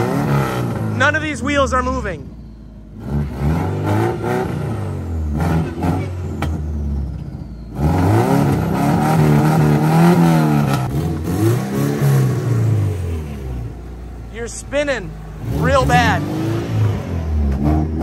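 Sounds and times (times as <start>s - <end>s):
car engine revving: 0.0s - 18.0s
tires spinning: 0.0s - 18.0s.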